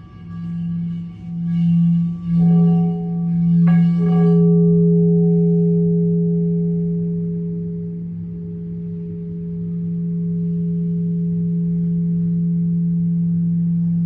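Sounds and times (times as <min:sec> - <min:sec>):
singing bowl ringing: 0:00.0 - 0:14.0.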